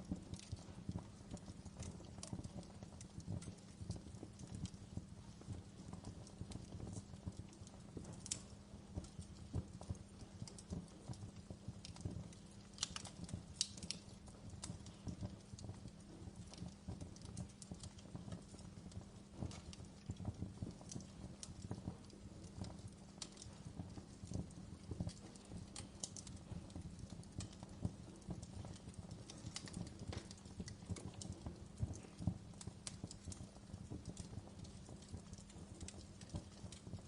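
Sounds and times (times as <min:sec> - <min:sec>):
low rumble of flame: 0:00.0 - 0:37.0
sharp snaps of fire: 0:00.0 - 0:37.0
wood fire crackling: 0:00.0 - 0:37.0.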